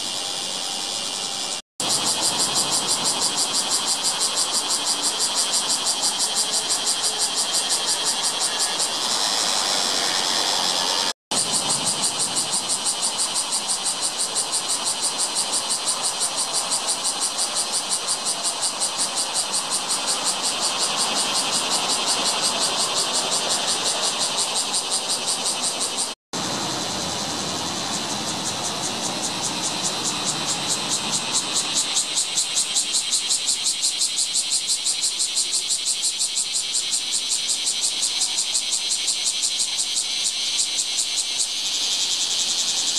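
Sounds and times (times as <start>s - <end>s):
cicadas buzzing: 0.0s - 42.9s.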